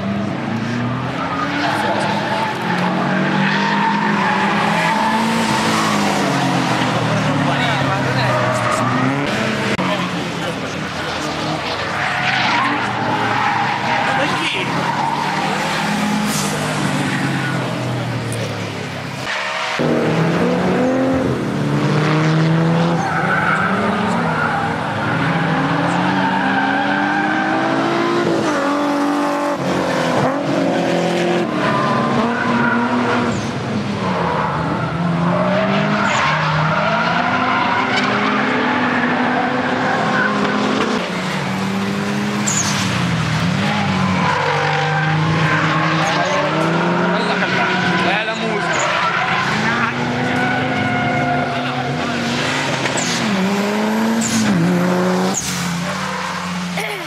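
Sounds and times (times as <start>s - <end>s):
car engine revving: 0.0s - 56.9s
tyres squealing and skidding: 0.2s - 57.0s.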